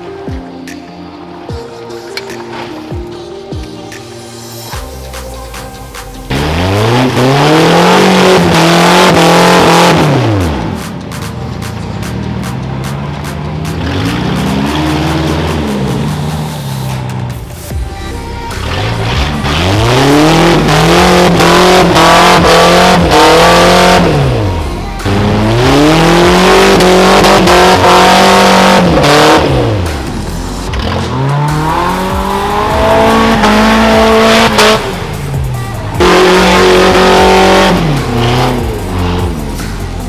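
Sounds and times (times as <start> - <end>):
electronic music with sweeping synth: 0.0 - 40.0.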